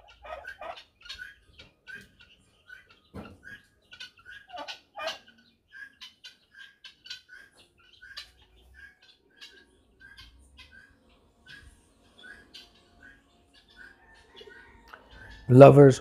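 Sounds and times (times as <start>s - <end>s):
guineafowl flock calling: 0.0s - 16.0s.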